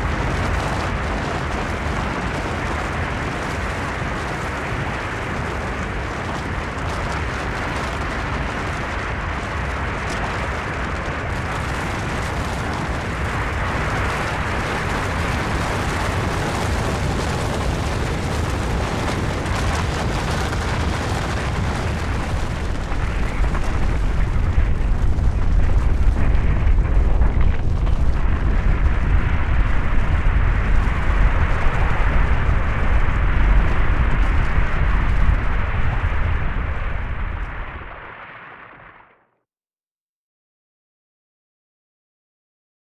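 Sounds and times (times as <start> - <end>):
avalanche rumble: 0.0 - 39.1.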